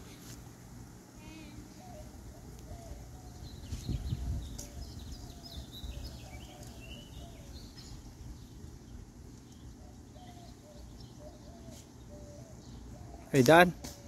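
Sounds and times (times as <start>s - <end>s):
birds chirping and calling: 1.3s - 14.0s.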